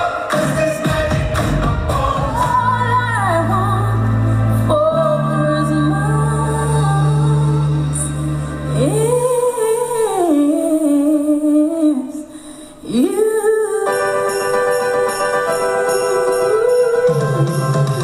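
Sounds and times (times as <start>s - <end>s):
christmas backing music: 0.0s - 18.0s.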